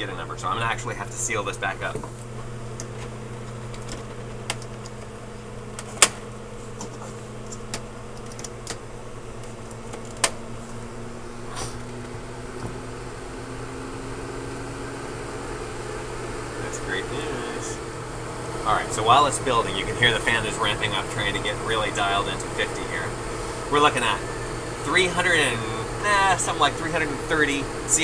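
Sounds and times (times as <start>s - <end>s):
fan humming: 0.0s - 28.0s.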